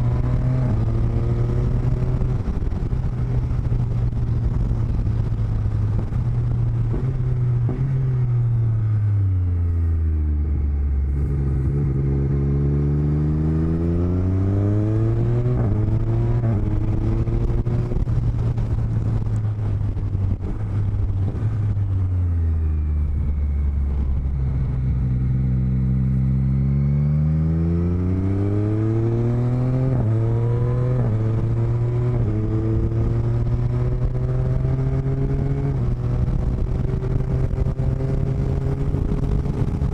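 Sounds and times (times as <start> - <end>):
wind rush: 0.0 - 8.2, 11.0 - 26.6, 27.4 - 39.9
motorcycle engine revving: 0.0 - 39.9.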